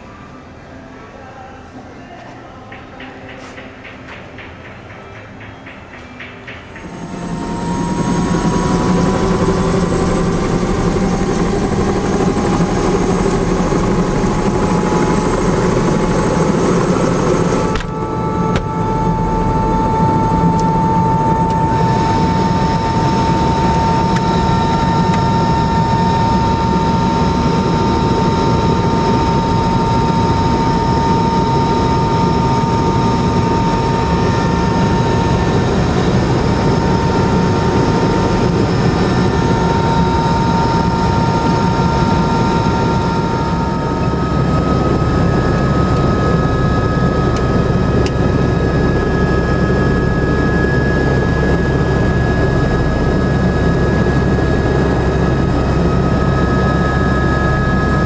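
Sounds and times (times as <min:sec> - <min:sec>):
helicopter turbine whine: 0:05.3 - 0:58.0
helicopter rotor rumble: 0:06.6 - 0:58.0.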